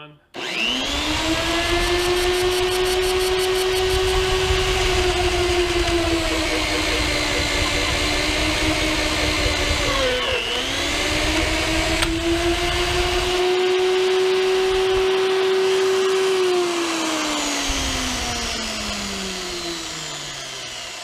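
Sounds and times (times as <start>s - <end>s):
drill cutting steel whine: 0.4s - 21.0s.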